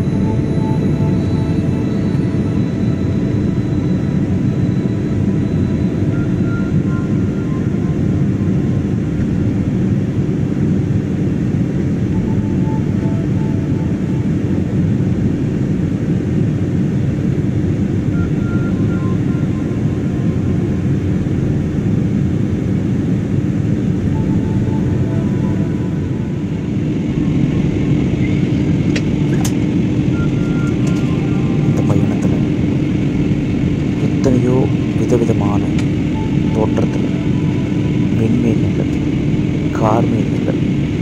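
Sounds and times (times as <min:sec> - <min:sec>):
jet engine cabin drone: 0:00.0 - 0:41.0.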